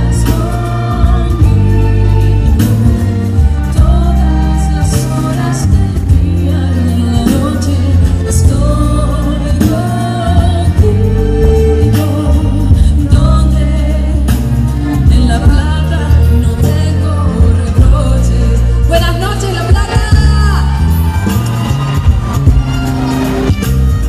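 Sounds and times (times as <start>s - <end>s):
woman singing into microphone: 0.0s - 21.1s
loud amplified music: 0.0s - 24.0s.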